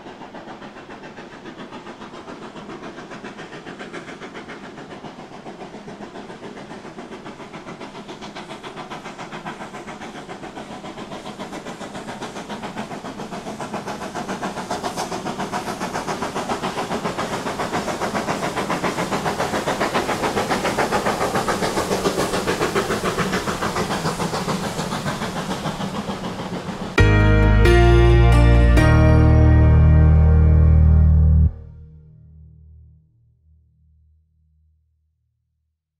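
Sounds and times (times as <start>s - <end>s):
steam locomotive exhaust beats: 0.0s - 32.1s.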